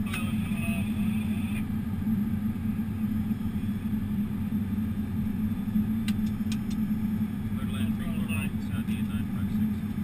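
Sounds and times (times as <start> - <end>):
aircraft cockpit hum and air rush: 0.0 - 10.0.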